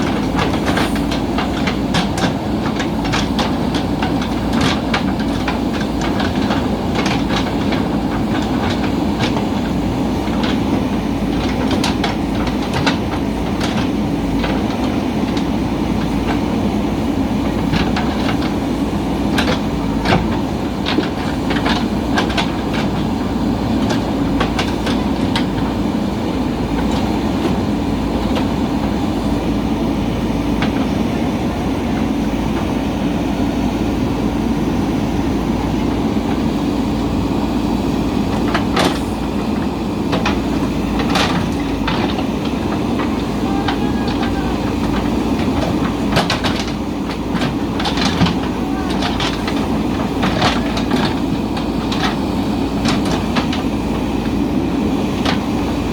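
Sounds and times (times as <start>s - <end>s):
bucket clanks and rattles: 0.0s - 33.4s, 35.4s - 55.9s
diesel engine running: 0.0s - 55.9s.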